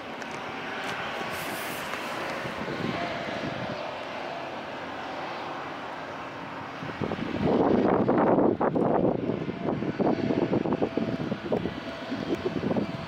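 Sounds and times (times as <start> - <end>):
diesel engine and hydraulics droning: 0.0 - 13.0
gusty wind on microphone: 0.0 - 13.0.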